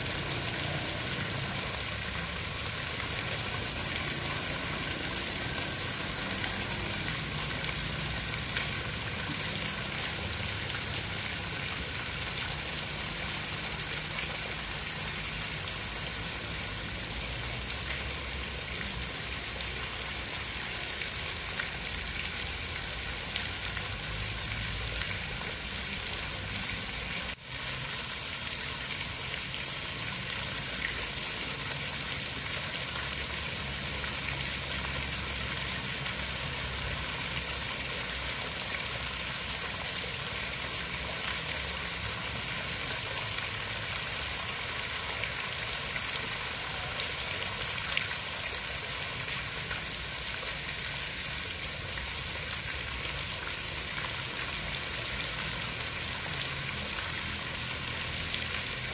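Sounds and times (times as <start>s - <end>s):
hiss of running water: 0.0s - 49.2s.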